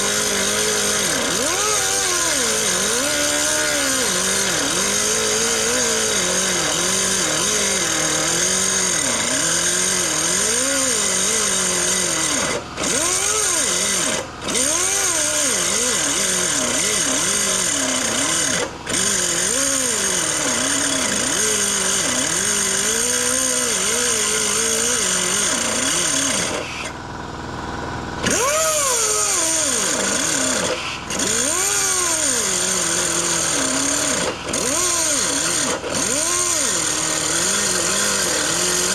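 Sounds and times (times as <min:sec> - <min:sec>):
power tool cutting steel: 0:00.0 - 0:27.0, 0:28.2 - 0:38.9.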